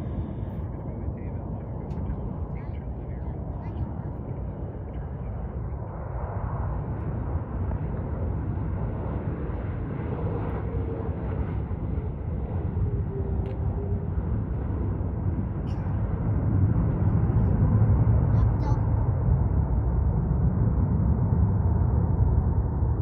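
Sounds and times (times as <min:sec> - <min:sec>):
faint engine whine: 0:00.0 - 0:23.0
jet engines rumbling: 0:00.0 - 0:23.0.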